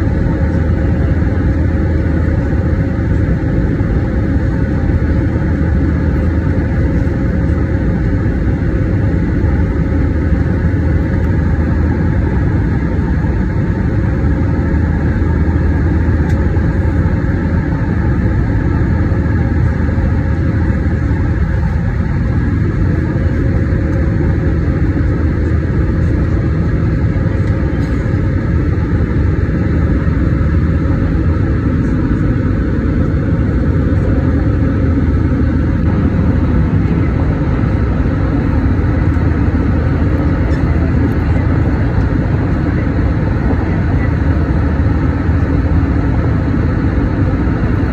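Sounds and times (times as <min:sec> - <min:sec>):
jet engines heard inside cabin: 0:00.0 - 0:47.9.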